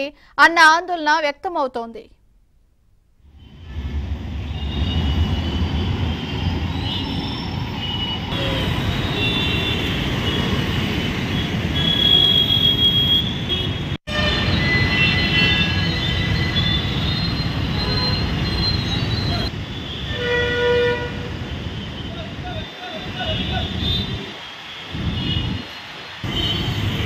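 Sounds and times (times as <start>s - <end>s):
traffic engines rumbling: 3.2s - 27.0s.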